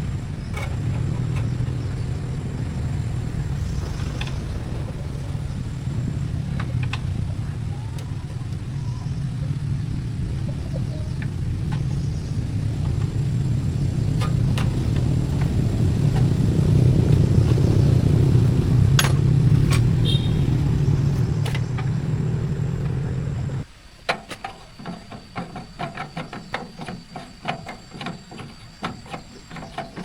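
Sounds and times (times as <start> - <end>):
tractor engine rumbling: 0.0 - 30.0.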